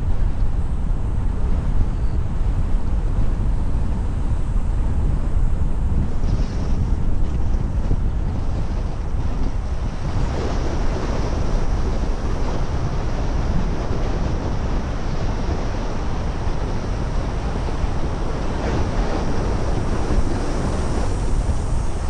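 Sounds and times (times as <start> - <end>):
wind buffeting a car: 0.0 - 22.0.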